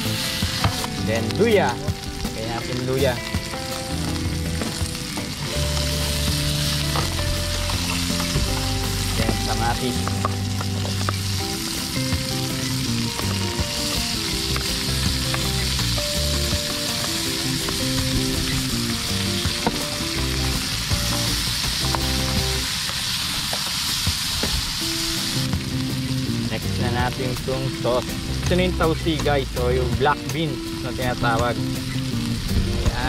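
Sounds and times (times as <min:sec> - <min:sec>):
vegetables sizzling in a frying pan: 0:00.0 - 0:33.0.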